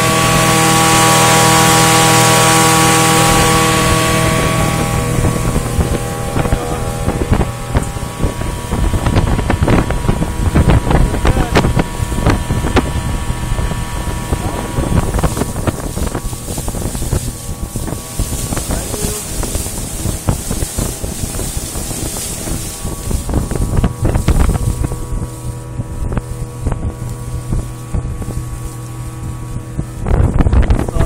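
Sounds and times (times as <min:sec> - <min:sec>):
outboard engine running: 0:00.0 - 0:31.0
water noise: 0:00.0 - 0:31.0
wind buffeting microphone: 0:00.0 - 0:31.0.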